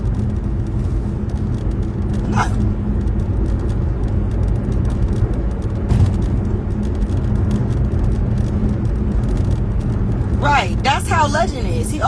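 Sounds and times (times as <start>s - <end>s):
faint clicks: 0.0s - 10.4s
vehicle road noise: 0.0s - 12.0s.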